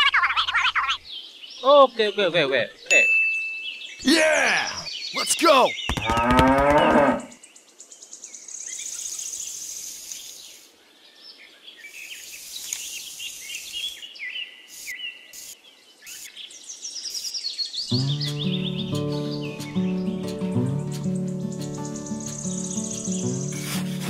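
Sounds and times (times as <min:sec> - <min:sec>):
birds chirping: 0:00.0 - 0:10.6, 0:11.4 - 0:24.0.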